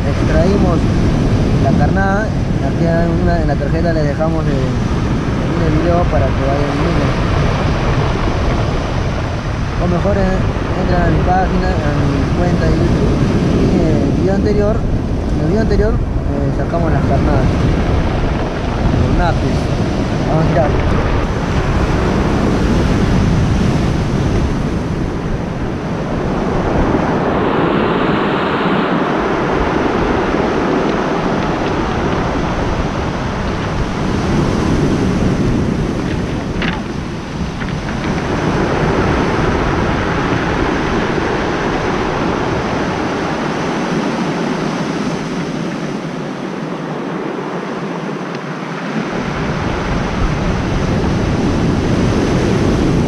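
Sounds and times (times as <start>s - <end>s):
surf breaking on pebble beach: 0.0s - 53.0s
wind rumbling on microphone: 0.0s - 53.0s.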